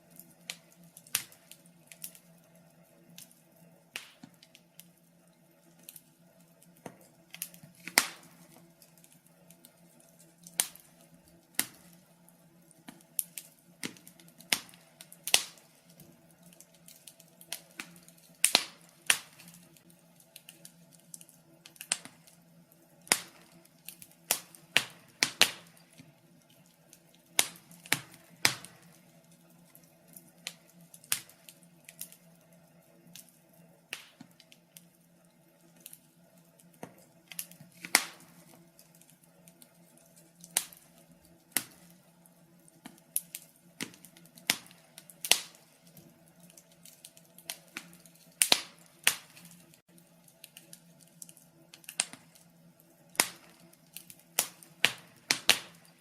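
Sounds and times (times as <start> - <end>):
faint steady hum: 0.0 - 56.0
fire crackling: 0.0 - 56.0.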